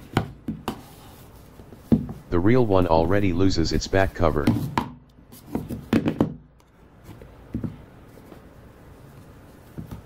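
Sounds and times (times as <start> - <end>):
faint room noise: 0.0 - 10.0.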